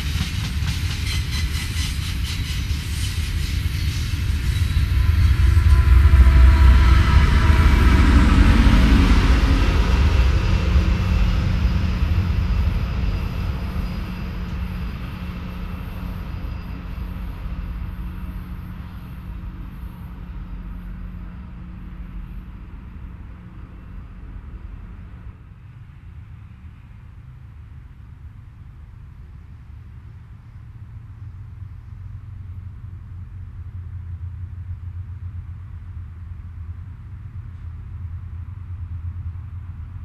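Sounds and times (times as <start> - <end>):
freight train rumbling past: 0.0 - 40.0
steady low hum: 3.2 - 40.0.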